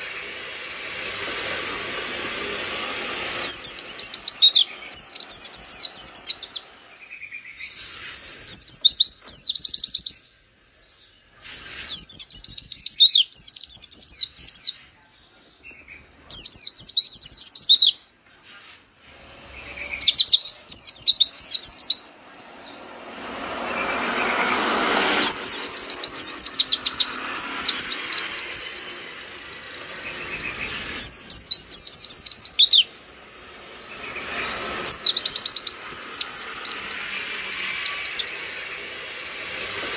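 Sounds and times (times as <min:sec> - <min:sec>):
rushing noise: 0:00.0 - 0:14.7, 0:18.8 - 0:39.9
bird high chirping song: 0:00.0 - 0:39.6.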